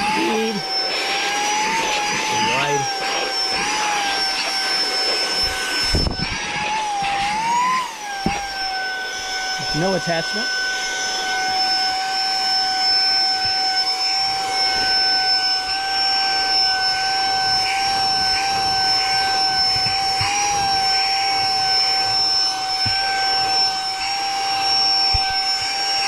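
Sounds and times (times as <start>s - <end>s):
handheld vacuum whining: 0.0s - 26.0s.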